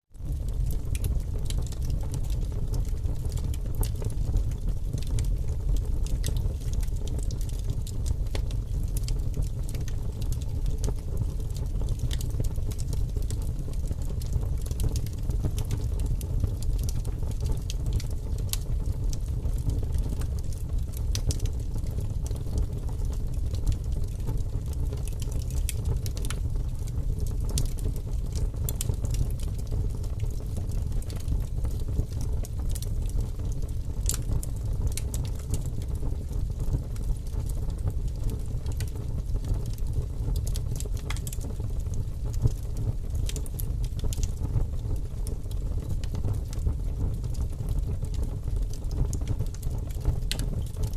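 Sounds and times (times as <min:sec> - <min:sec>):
firewood crackling and popping: 0:00.2 - 0:50.9.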